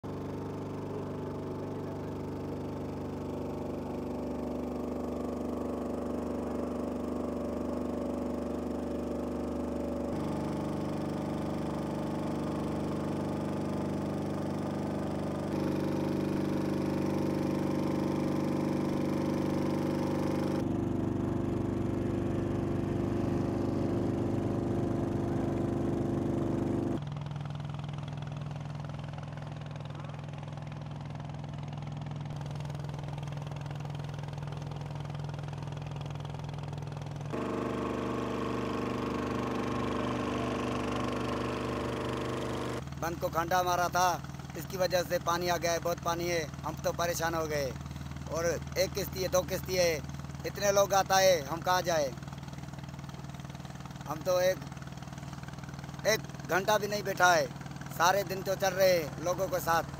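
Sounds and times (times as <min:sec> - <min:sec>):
motorboat engines running: 0:00.0 - 0:59.9.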